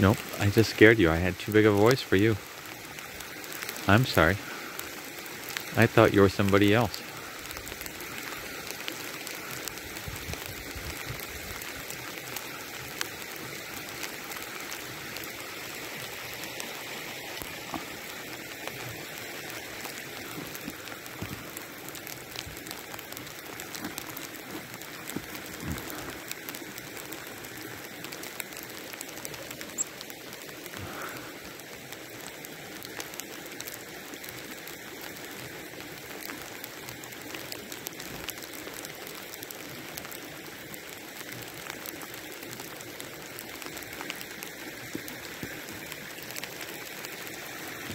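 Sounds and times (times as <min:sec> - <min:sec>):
sleet and light rain falling: 0:00.0 - 0:47.9.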